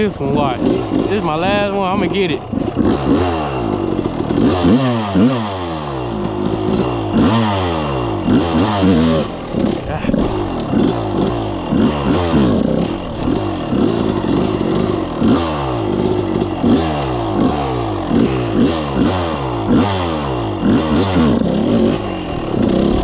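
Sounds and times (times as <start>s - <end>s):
quad engine revving: 0.0s - 23.0s.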